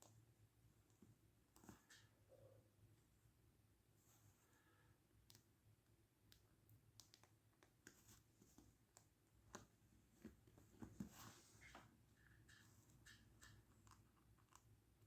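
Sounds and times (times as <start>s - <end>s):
faint small clicks and taps: 0.0s - 2.5s, 5.2s - 15.0s.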